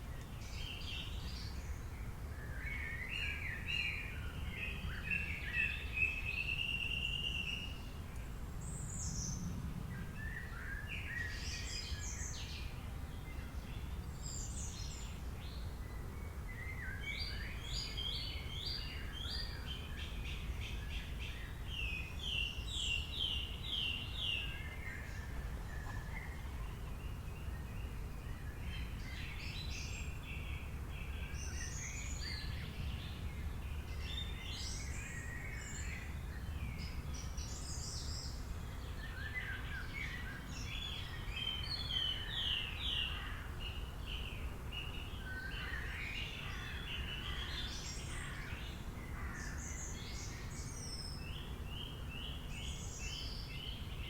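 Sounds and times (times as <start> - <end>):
songbirds chirping and singing: 10.2 - 54.0.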